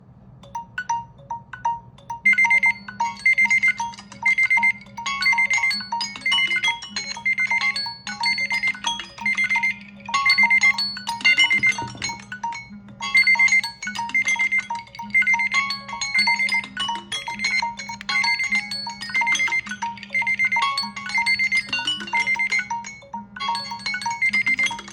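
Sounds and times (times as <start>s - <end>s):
phone alarm chiming tone: 0.5s - 24.9s.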